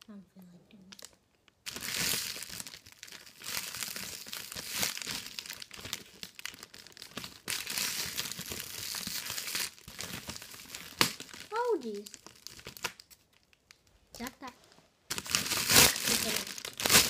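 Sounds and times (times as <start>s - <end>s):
cellophane wrap crinkling: 0.8s - 13.9s, 15.1s - 17.0s.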